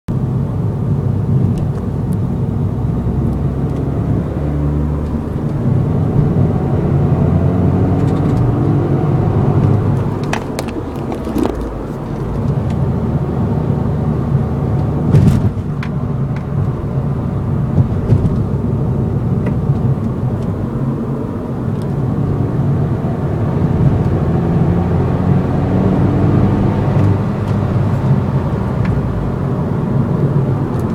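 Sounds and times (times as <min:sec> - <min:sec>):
car engine accelerating: 0:00.1 - 0:30.9.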